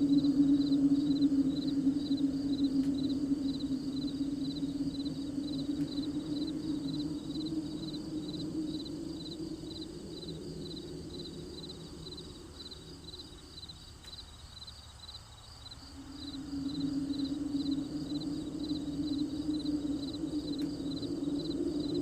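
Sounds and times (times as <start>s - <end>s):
crickets chirping: 0.0s - 22.0s
low steady hum: 0.0s - 22.0s.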